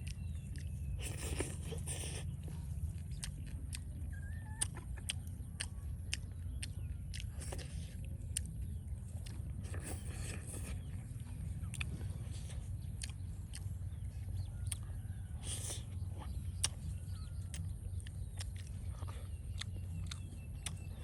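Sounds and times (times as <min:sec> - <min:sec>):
low steady rumble: 0:00.0 - 0:21.0
person eating crunchily: 0:00.0 - 0:21.0.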